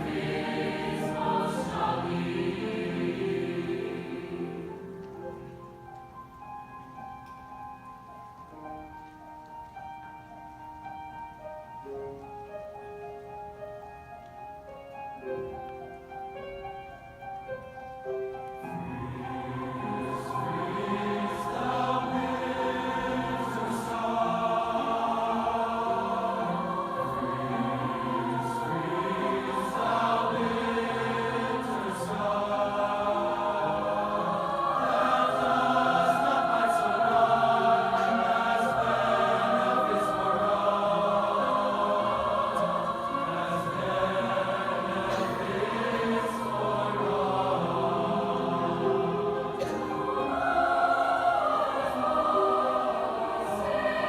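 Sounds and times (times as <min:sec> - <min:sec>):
choir singing in harmony: 0:00.0 - 0:07.4, 0:15.1 - 0:54.0.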